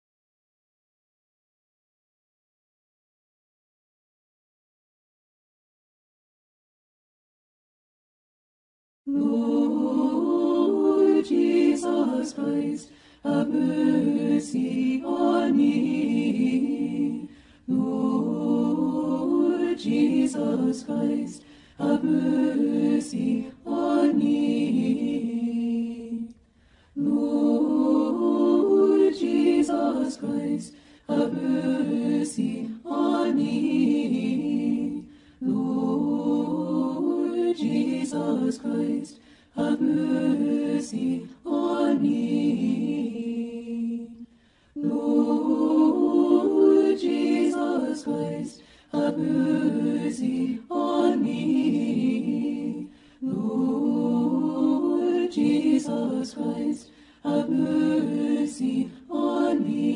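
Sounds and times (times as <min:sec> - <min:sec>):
choir chanting in harmony: 0:09.1 - 0:59.9.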